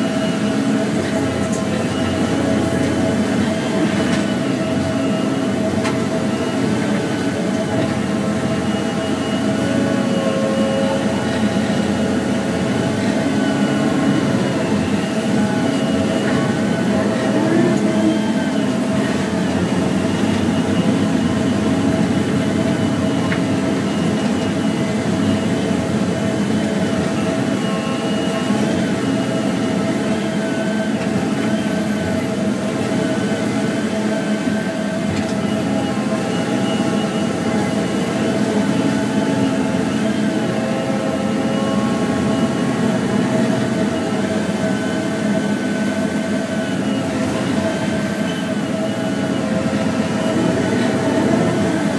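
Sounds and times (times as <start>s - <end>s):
diesel engine running: 0.0s - 51.9s
hydraulic whine: 0.0s - 51.9s.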